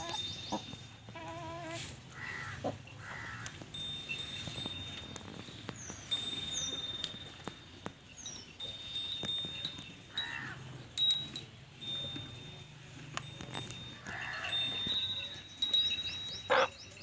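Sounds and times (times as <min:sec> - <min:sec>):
small metal bell clinking: 0:00.0 - 0:01.6, 0:03.6 - 0:17.0.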